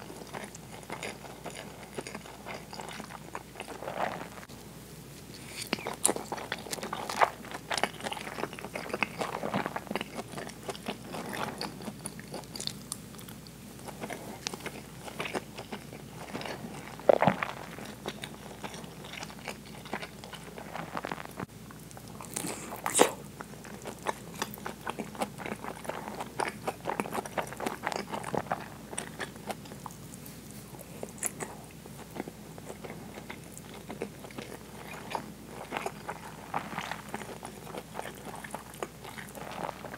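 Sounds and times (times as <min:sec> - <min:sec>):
wet chewing mouth sounds: 0:00.0 - 0:04.5, 0:05.2 - 0:39.9.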